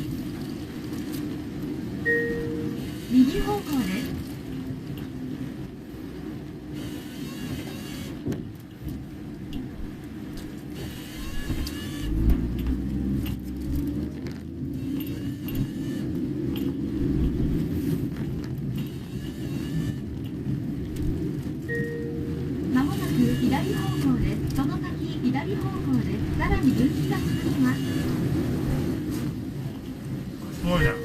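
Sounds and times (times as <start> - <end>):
car interior road rumble: 0.0 - 31.0.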